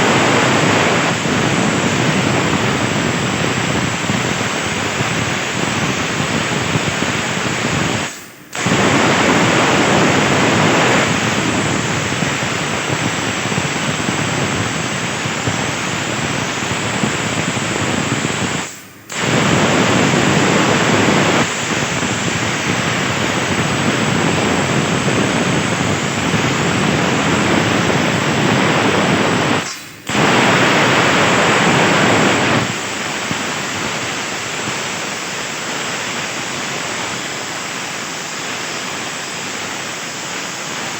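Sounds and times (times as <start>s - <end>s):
plasma torch hissing: 0.0s - 40.9s.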